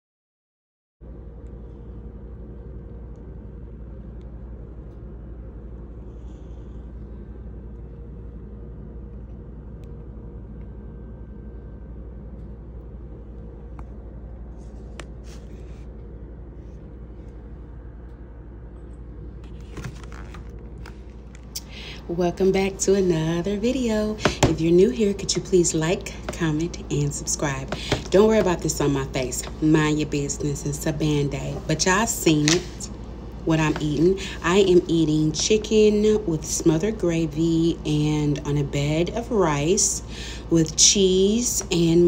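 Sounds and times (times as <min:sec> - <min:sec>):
low background hum and rumble: 0:01.0 - 0:42.0.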